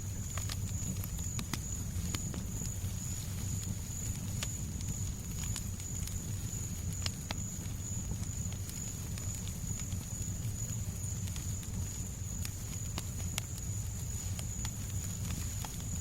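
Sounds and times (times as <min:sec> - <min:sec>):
fireplace crackling: 0:00.0 - 0:16.0
low rumble of burning wood: 0:00.0 - 0:16.0.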